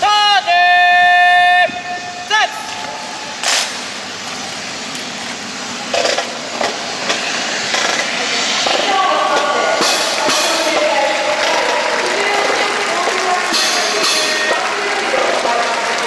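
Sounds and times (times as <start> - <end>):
crowd chatter: 2.0 - 16.0.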